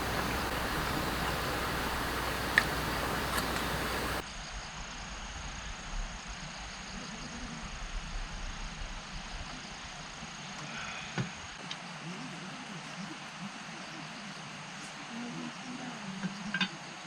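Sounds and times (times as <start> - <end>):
outdoor ambient noise: 0.0 - 17.0.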